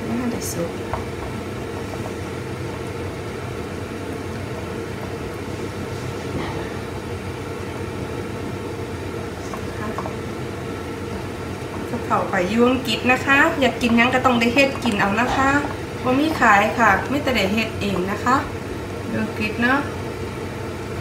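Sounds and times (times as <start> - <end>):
kitchen low rumble: 0.0 - 21.0.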